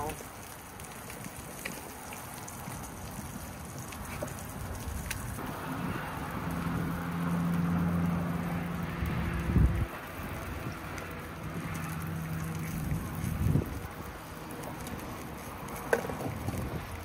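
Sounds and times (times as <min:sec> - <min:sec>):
low engine hum: 0:02.4 - 0:17.0.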